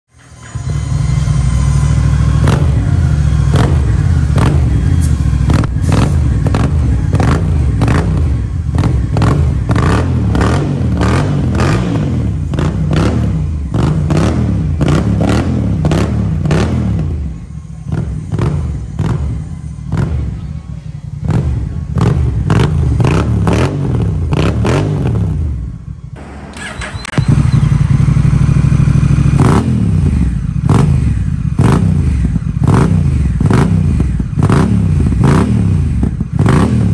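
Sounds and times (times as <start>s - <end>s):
motorcycle engine revving: 0.2s - 36.9s.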